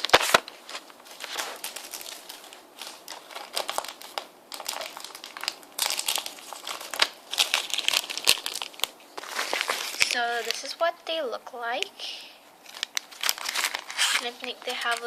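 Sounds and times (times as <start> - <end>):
biscuit packet crinkling: 0.0 - 10.9, 12.6 - 15.0.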